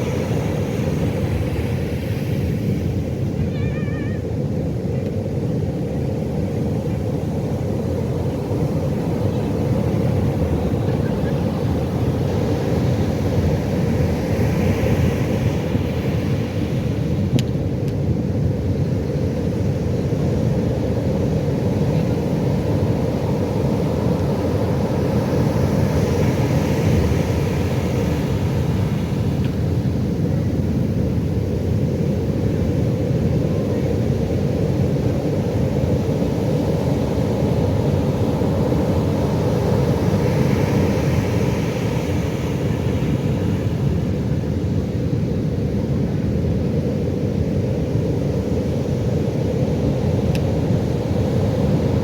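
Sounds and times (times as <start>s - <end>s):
rumble of breaking waves: 0.0s - 52.0s.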